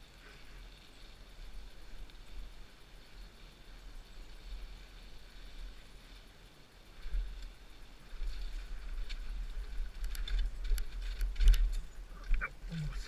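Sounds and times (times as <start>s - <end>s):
wind and trail bumps on microphone: 1.1s - 13.0s.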